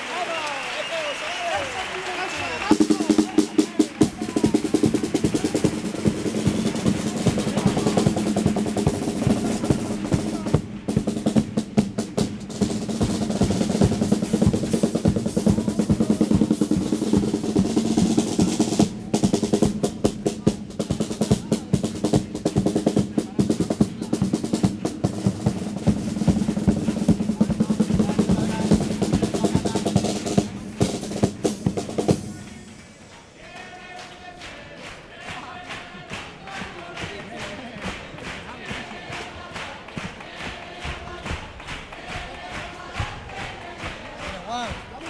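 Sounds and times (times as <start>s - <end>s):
snare drum rolls: 0.0s - 45.0s
bass drum beats: 2.6s - 33.0s, 35.3s - 45.0s.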